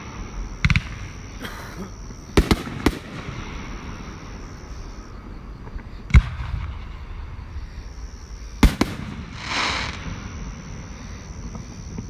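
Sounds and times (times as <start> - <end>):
fireworks bangs: 0.0 - 5.0, 5.6 - 12.0
fireworks hiss: 0.0 - 12.0.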